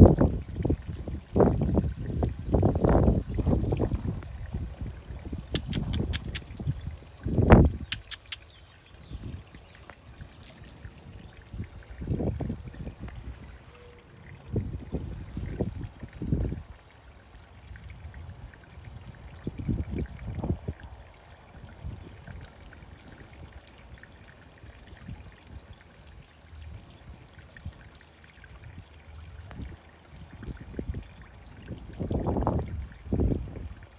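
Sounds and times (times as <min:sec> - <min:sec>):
pond water trickling: 0:00.0 - 0:33.9.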